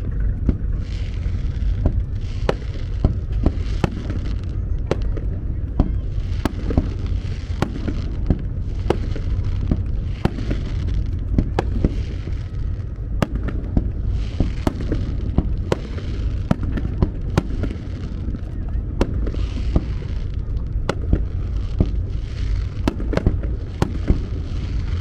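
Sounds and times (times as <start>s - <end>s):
continuous low rumble: 0.0s - 25.0s
fireworks bangs: 0.0s - 25.0s.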